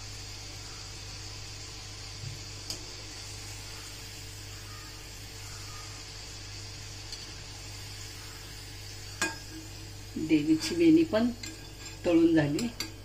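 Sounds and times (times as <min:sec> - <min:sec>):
dough frying in hot oil: 0:00.0 - 0:13.0.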